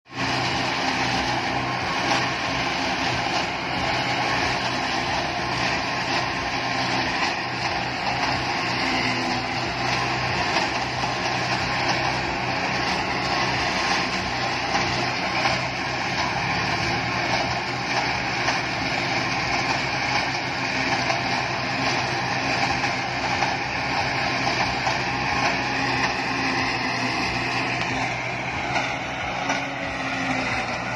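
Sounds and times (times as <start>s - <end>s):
harvester engine drone: 0.0s - 30.9s
dense mechanical whirr: 0.1s - 30.9s.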